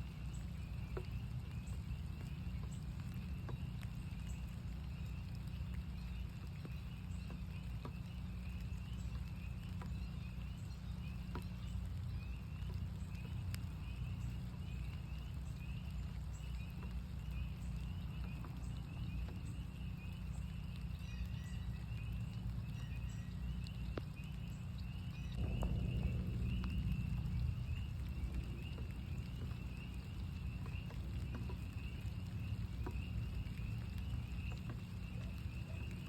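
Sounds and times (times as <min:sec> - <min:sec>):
drip-like clicks: 0:00.0 - 0:36.0
spring peepers calling: 0:00.0 - 0:36.0
steady low rumble: 0:00.0 - 0:36.0.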